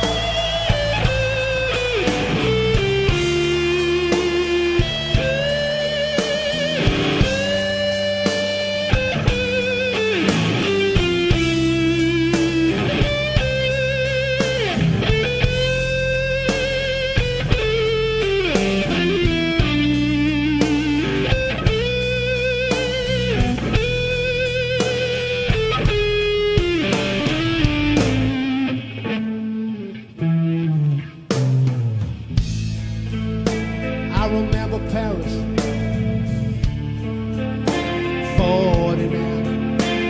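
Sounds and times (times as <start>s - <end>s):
bass guitar: 0.0s - 40.0s
drums: 0.0s - 40.0s
electric guitar solo: 0.0s - 40.0s.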